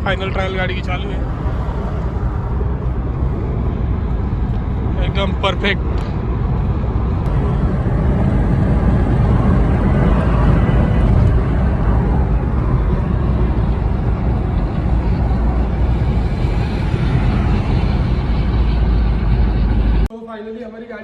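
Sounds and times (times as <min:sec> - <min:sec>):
car engine and road noise: 0:00.0 - 0:20.1.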